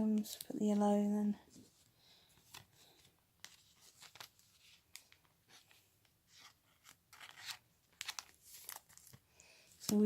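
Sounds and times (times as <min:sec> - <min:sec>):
trading cards and wrappers rustling: 0:00.0 - 0:10.0.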